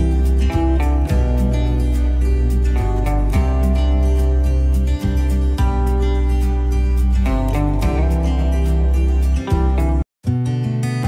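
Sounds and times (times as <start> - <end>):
deep bass: 0.0 - 10.0
strummed acoustic guitar: 0.0 - 11.0.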